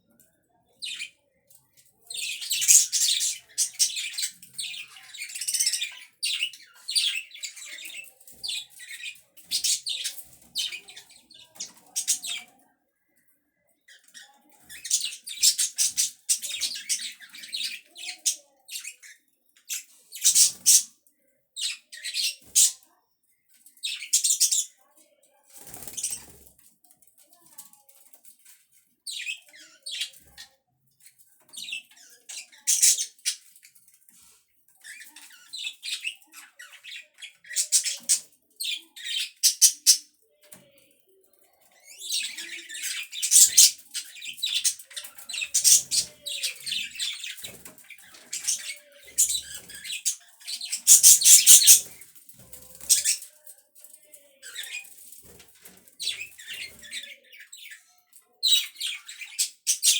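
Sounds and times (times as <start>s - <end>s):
budgerigars chirping and chattering: 0.1s - 12.6s, 13.8s - 21.0s, 21.6s - 26.7s, 28.4s - 53.4s, 54.4s - 59.9s.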